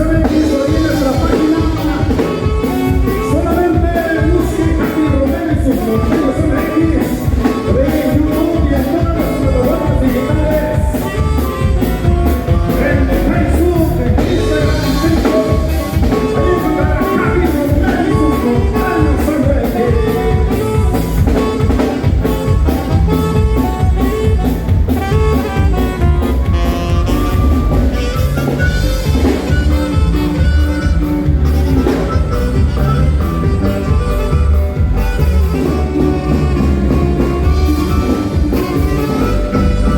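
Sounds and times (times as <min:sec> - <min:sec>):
band playing a polka: 0:00.0 - 0:39.9.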